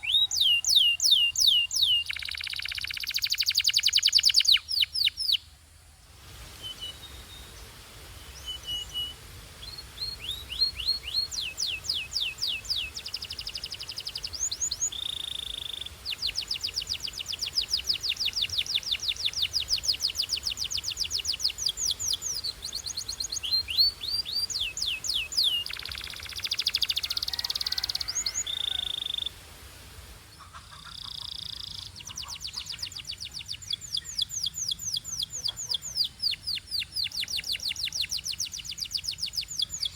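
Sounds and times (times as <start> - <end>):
canary singing: 0.0 - 5.4, 8.5 - 29.3, 30.5 - 39.9.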